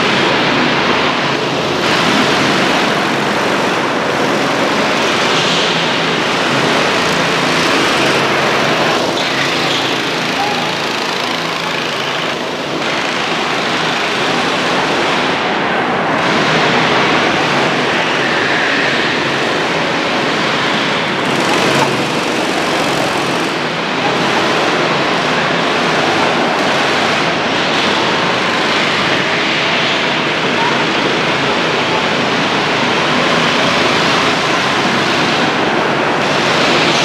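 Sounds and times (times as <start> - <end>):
go-kart engines running: 0.0 - 37.0.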